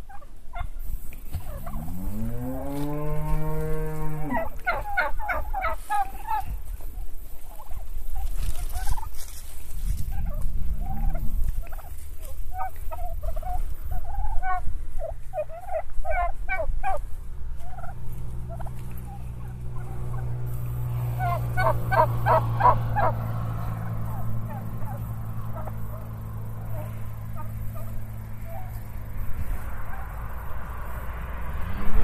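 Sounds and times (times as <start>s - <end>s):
turkeys gobbling: 0.0s - 31.0s
low steady hum: 0.0s - 32.0s.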